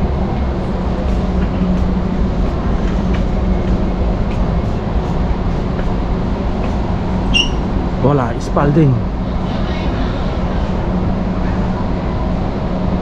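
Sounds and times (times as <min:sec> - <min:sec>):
constant hum: 0:00.0 - 0:13.0
steady low rumble: 0:00.0 - 0:13.0.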